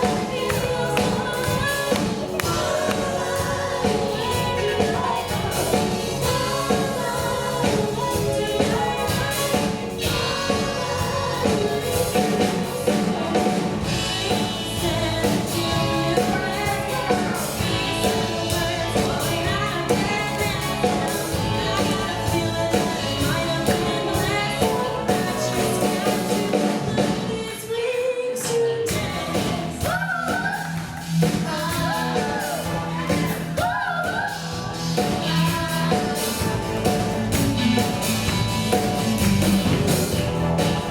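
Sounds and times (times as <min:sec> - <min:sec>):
band playing: 0:00.0 - 0:27.4, 0:28.9 - 0:33.7, 0:34.4 - 0:40.9
people singing live: 0:00.0 - 0:40.9.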